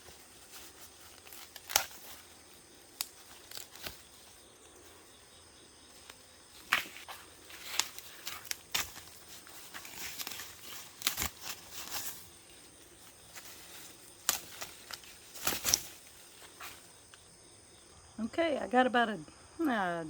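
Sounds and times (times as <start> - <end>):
dry stalks and husks rustling: 0.0 - 17.9.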